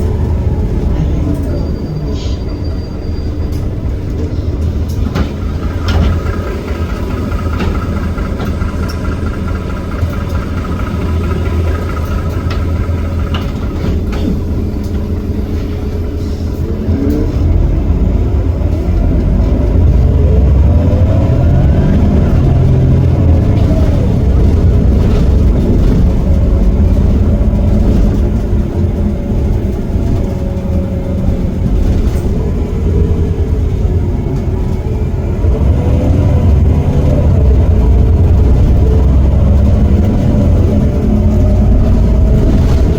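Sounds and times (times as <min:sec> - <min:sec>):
bus diesel engine: 0:00.0 - 0:42.9.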